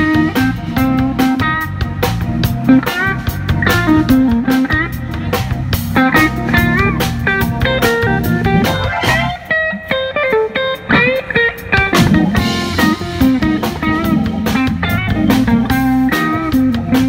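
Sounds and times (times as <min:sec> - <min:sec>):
electric bass: 0:00.0 - 0:09.8, 0:10.4 - 0:17.0
drum kit: 0:00.0 - 0:17.0
electric guitar lead: 0:00.0 - 0:17.0
keyboard: 0:00.0 - 0:17.0.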